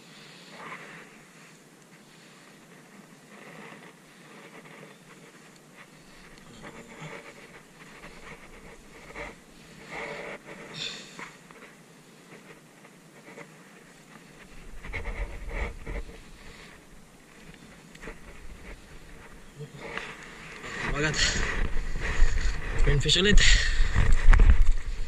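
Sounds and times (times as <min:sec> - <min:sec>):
heavy breathing: 0:00.0 - 0:12.6, 0:14.1 - 0:25.0.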